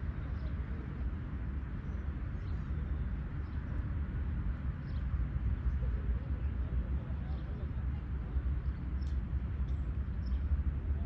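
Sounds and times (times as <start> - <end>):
low rumble and noise haze: 0.0 - 11.0.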